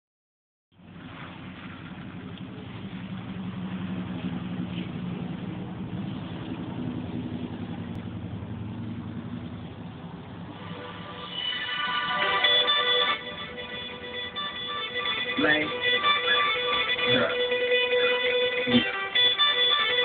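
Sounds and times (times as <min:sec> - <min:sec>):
vehicle engine humming: 0:00.7 - 0:20.0.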